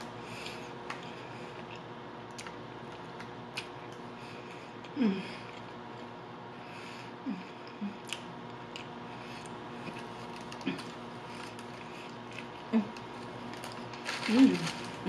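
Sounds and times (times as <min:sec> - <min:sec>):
chewing with soft crunches: 0:00.3 - 0:06.2, 0:07.5 - 0:15.0.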